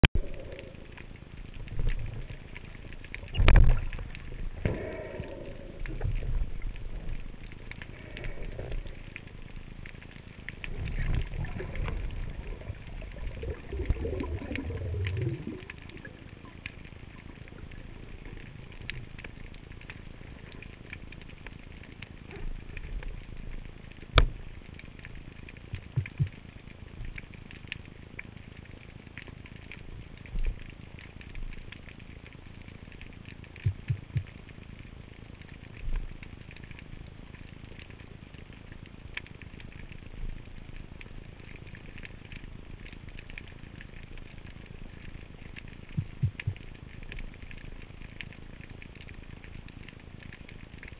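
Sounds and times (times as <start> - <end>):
crackle of tiny underwater clicks: 0.0 - 50.9
low rumbling water movement: 0.0 - 50.9.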